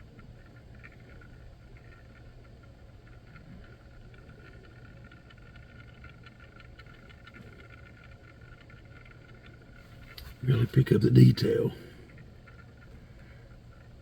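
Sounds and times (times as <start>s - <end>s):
light irregular ticking: 0.0s - 14.0s
turntable motor hum with whine: 0.0s - 14.0s.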